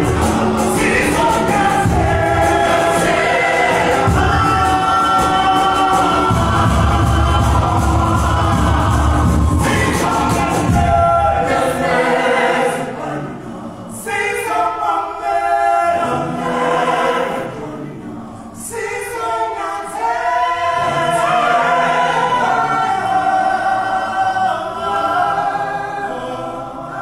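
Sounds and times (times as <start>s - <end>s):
choir singing in harmony: 0.0s - 27.0s.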